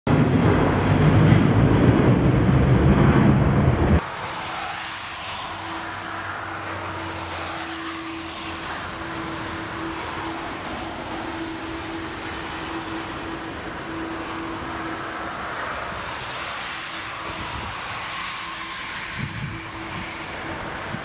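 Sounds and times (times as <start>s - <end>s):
loud rough low rumble: 0.1s - 17.9s
jet engines on approach: 0.1s - 21.0s.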